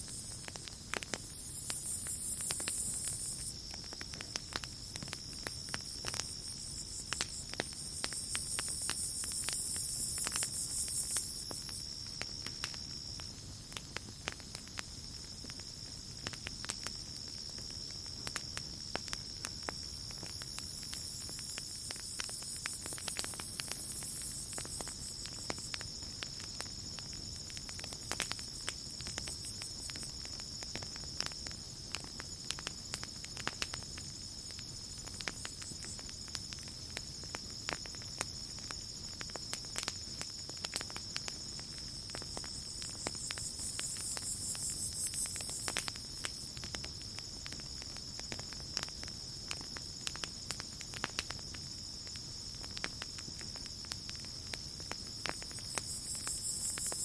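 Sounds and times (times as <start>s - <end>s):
campfire crackling and popping: 0.0s - 57.0s
night insects chirring: 0.0s - 57.0s.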